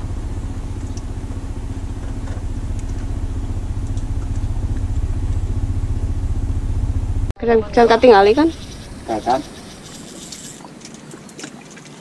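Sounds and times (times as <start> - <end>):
small engine running: 0.0 - 10.6.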